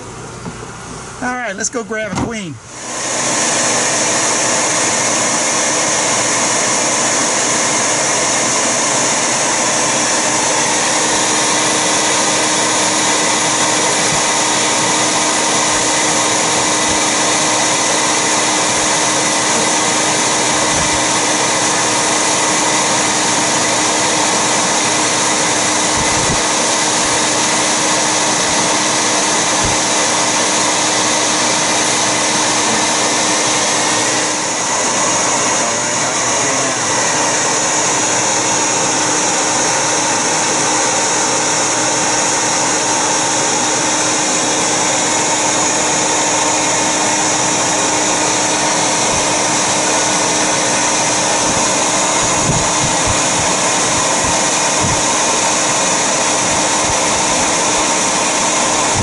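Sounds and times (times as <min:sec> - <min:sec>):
vacuum motor humming: 0:00.0 - 0:59.0.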